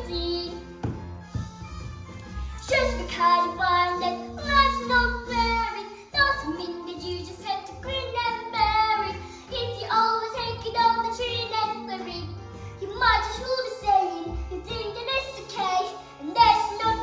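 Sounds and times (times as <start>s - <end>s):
child singing: 0.0s - 0.6s, 2.6s - 17.0s.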